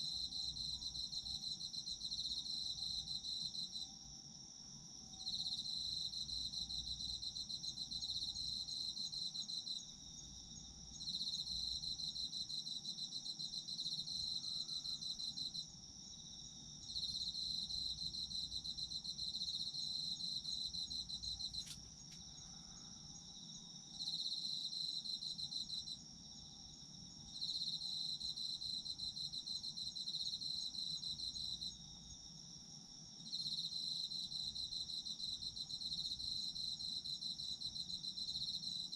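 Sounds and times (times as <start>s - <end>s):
cricket continuous trill: 0.0s - 38.9s
cricket pulsed chirping: 0.0s - 38.9s.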